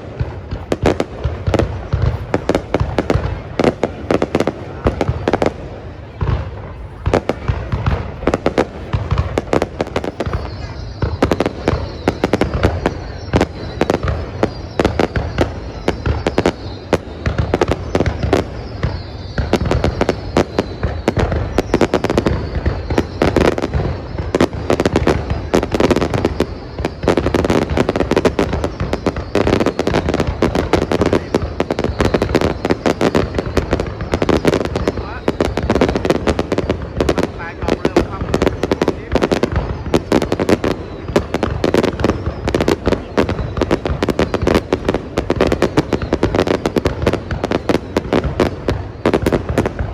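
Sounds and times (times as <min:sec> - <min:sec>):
falling firework whistles: 0:00.0 - 0:49.9
fireworks bangs and crackles: 0:00.0 - 0:49.9.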